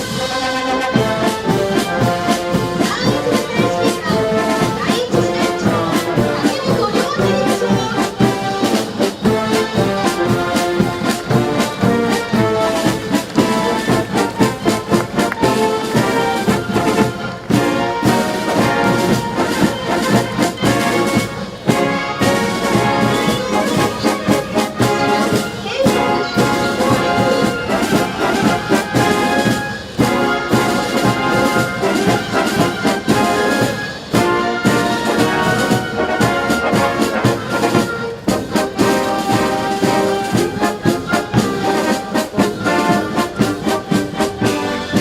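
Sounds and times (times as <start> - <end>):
steady drum beat: 0.0 - 45.0
trumpets and trombones: 0.0 - 45.0.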